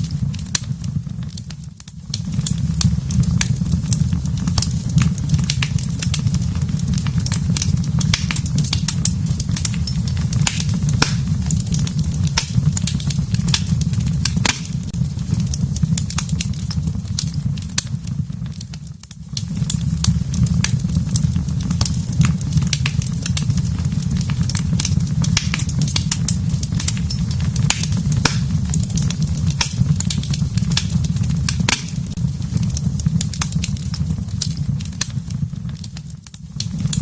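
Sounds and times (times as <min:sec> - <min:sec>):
fire crackling and popping: 0:00.0 - 0:37.0
low rumble of flames: 0:00.0 - 0:37.0.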